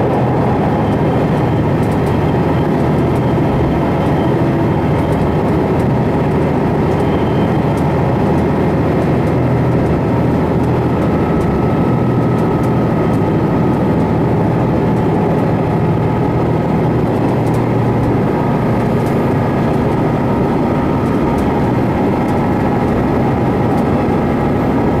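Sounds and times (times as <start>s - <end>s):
diesel railcar engine drone: 0.0s - 25.0s
train wheels on rails: 0.0s - 25.0s.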